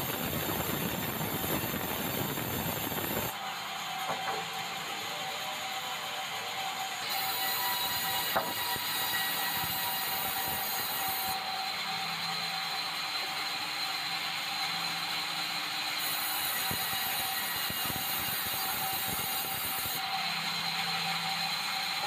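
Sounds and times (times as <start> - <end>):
band saw whining: 0.0 - 22.0
saw cutting timber: 0.0 - 22.0.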